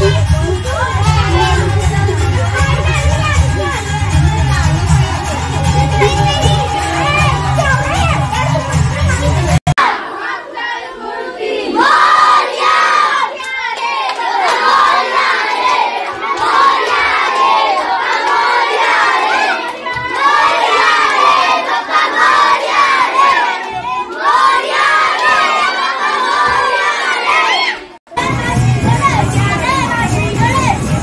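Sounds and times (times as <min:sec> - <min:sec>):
crowd shouting and chanting: 0:00.0 - 0:31.0.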